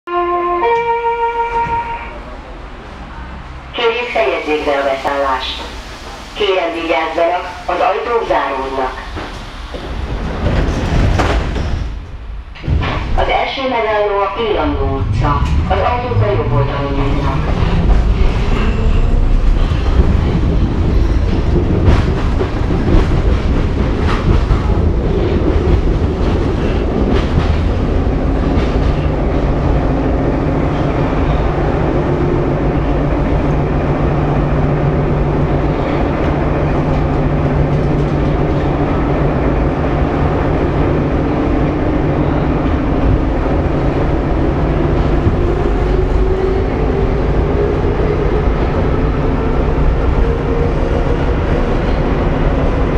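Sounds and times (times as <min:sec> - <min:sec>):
train rumble with wheel clatter: 0:00.1 - 0:52.9.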